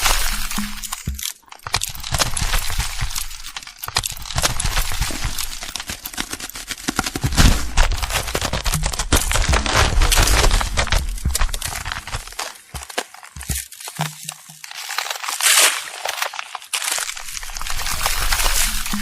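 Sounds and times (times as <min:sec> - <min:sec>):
ground cracking and crumbling: 0:00.0 - 0:19.0.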